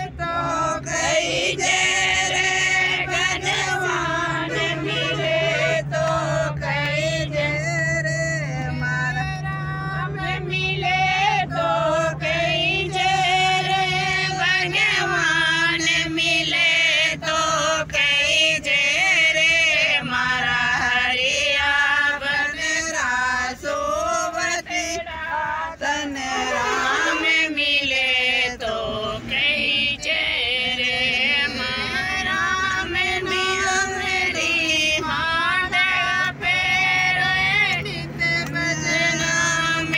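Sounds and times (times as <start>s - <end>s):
steady low hum: 0.0s - 39.9s
women singing devotional song: 0.0s - 39.9s.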